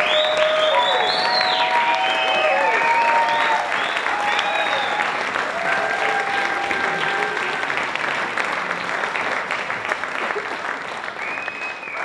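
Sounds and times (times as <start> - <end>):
crowd clapping: 0.0 - 12.0.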